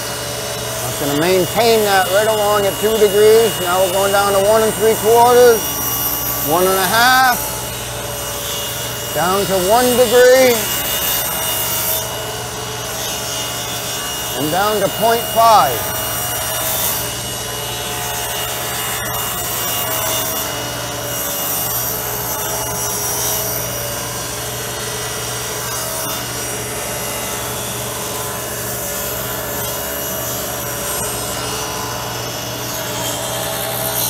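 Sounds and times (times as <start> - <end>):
table saw ripping wood: 0.0 - 34.0.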